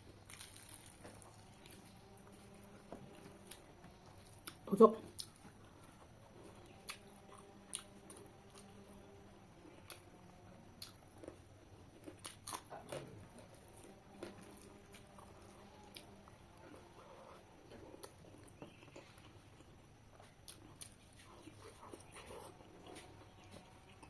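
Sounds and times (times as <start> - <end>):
person chewing: 0.2 - 9.0, 9.6 - 10.1, 10.7 - 24.0.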